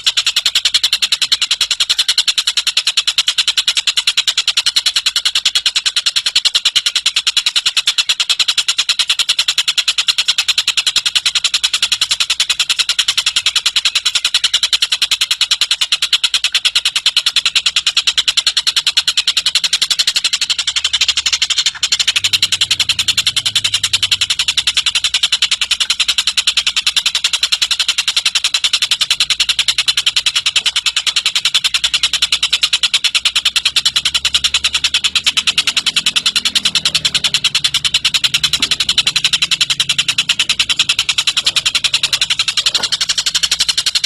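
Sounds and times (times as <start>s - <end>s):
bird high-pitched trill: 0.0s - 44.0s.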